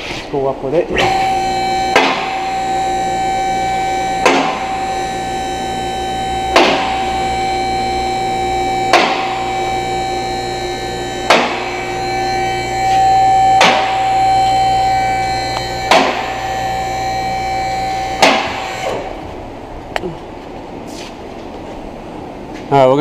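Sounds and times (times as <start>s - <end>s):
hydraulic pump motor whining: 0.9s - 19.7s.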